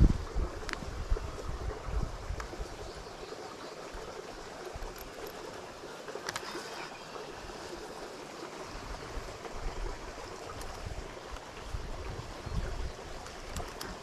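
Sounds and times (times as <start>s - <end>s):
water rushing over spillway: 0.0s - 14.0s.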